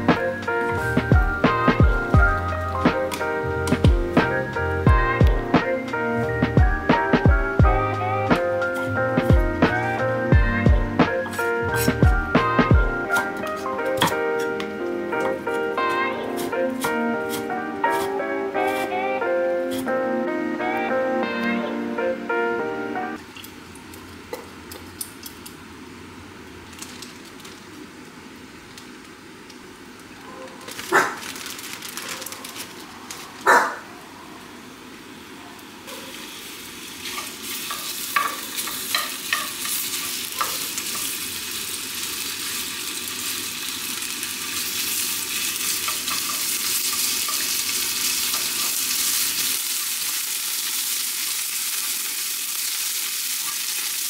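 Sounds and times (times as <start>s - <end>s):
sizzling hiss with pops: 0.0s - 20.0s, 26.7s - 33.2s, 35.6s - 54.0s.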